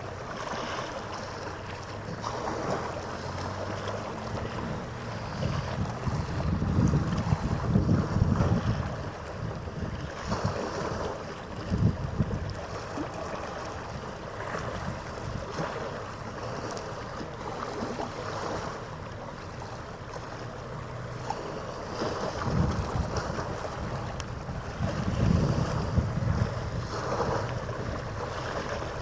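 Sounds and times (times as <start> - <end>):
distant ship noise: 0.0 - 29.0
harbour water rushing: 0.0 - 29.0
wind buffeting microphone: 1.2 - 29.0.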